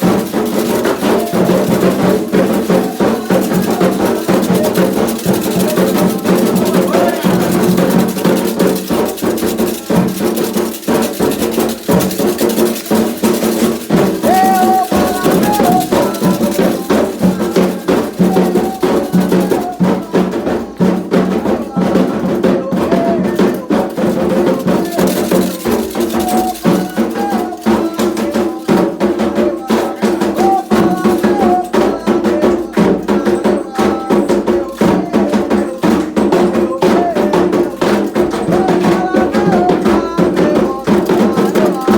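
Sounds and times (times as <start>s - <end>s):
hand drums in fast rhythm: 0.0s - 41.9s
shaken rattles: 0.0s - 41.9s
chanted song: 0.1s - 8.1s, 13.8s - 41.9s.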